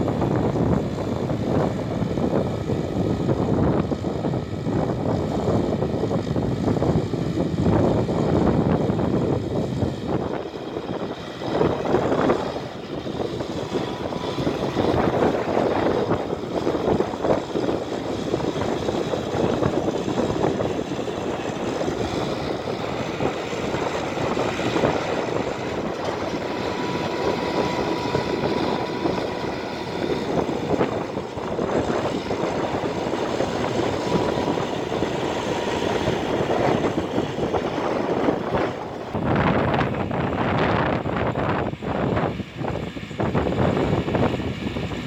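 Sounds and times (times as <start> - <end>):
tractor driven reaper droning: 0.0 - 45.0.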